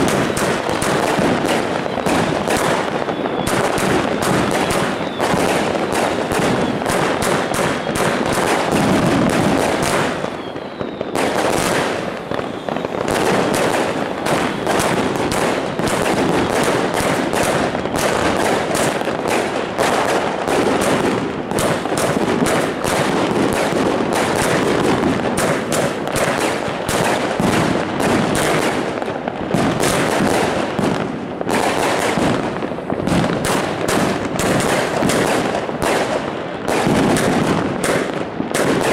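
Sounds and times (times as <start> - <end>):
fireworks barrage: 0.0 - 38.9.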